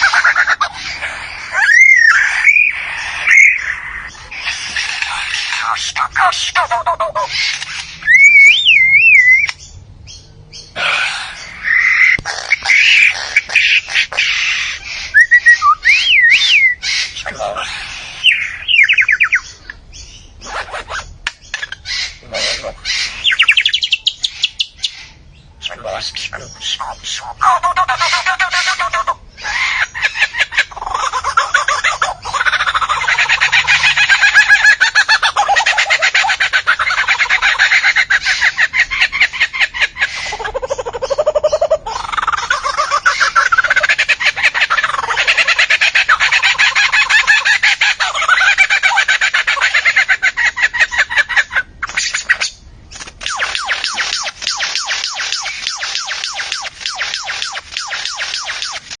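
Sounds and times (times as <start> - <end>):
bird calling: 0.0 - 59.0.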